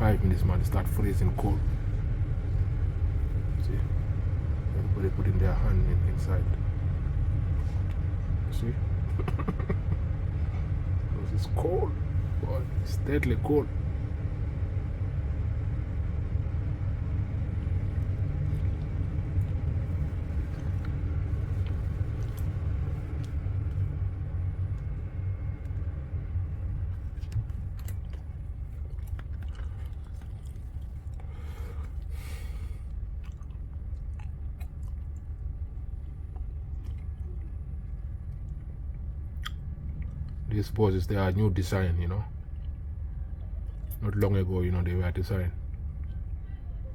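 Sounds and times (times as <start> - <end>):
bus rumbling: 0.0 - 46.9.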